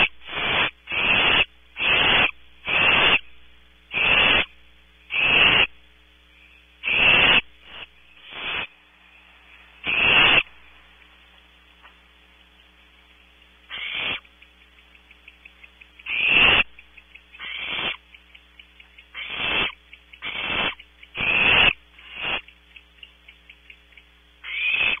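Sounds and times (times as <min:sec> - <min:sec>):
owlets hissing begging calls: 0:00.0 - 0:03.3, 0:03.9 - 0:10.6, 0:13.6 - 0:25.0.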